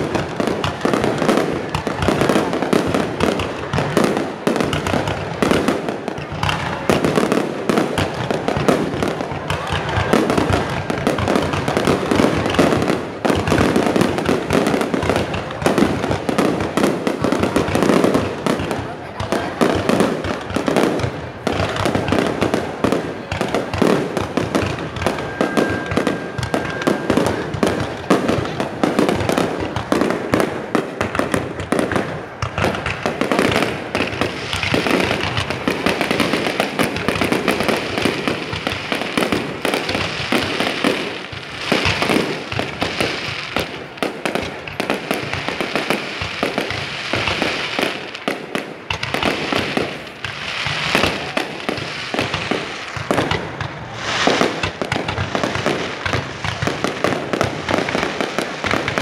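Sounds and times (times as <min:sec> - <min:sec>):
fireworks launching and bursting: 0:00.0 - 0:59.0
hissing crackle of fireworks: 0:00.0 - 0:59.0.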